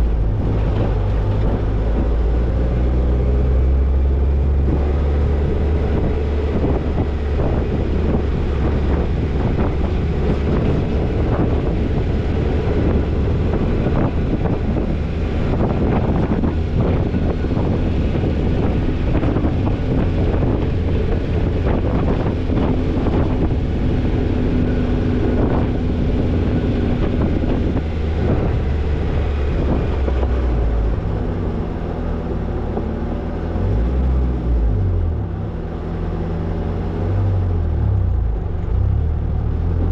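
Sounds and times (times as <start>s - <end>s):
car engine and road rumble: 0.0s - 39.9s
wind buffeting microphone: 0.0s - 39.9s.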